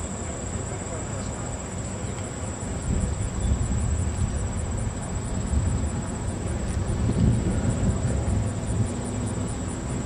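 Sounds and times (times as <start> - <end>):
low uneven rumble: 0.9 - 10.0.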